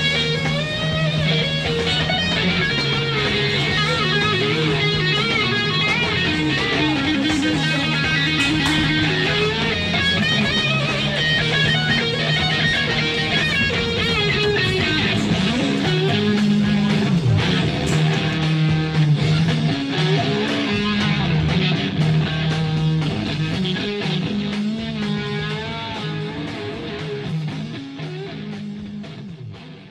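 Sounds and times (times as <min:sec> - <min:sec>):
rock music with electric guitar: 0:00.0 - 0:29.9.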